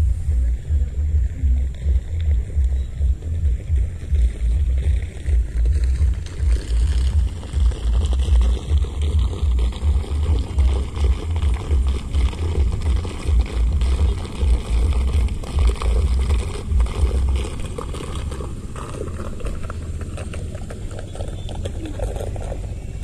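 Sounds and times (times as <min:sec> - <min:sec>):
steady hiss: 0:00.0 - 0:20.6
motorboat passing: 0:00.0 - 0:23.0
wind buffeting microphone: 0:00.0 - 0:23.0.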